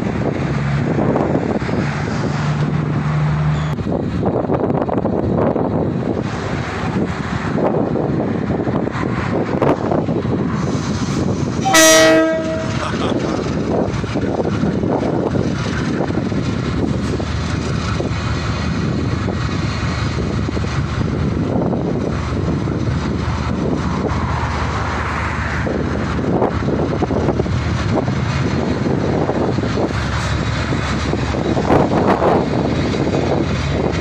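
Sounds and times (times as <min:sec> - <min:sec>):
diesel locomotives running: 0:00.0 - 0:34.0.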